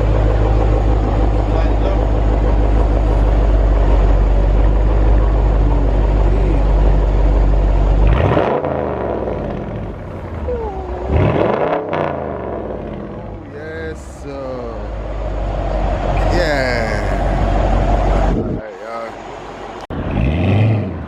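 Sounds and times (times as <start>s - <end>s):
car exhaust drone: 0.0s - 21.0s
engine revving: 0.0s - 21.0s.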